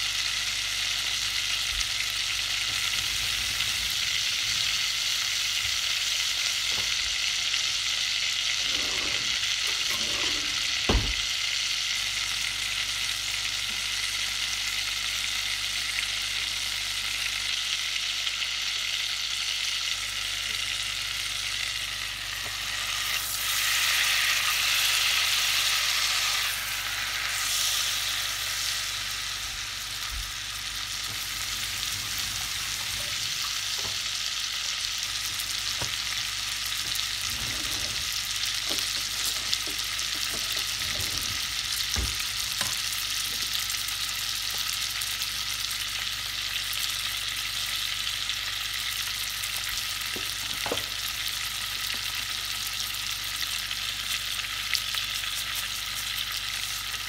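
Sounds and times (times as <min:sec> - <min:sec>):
fish sizzling in butter: 0:00.0 - 0:57.0.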